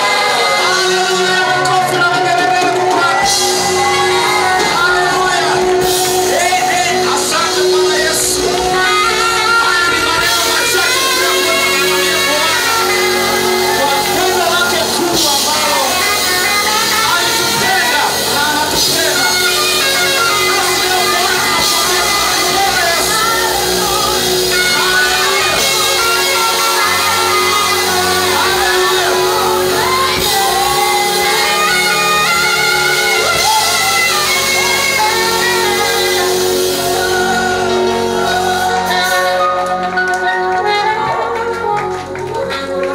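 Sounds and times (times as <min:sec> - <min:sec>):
gospel band playing: 0:00.0 - 0:42.9
voices singing and shouting: 0:00.0 - 0:42.9.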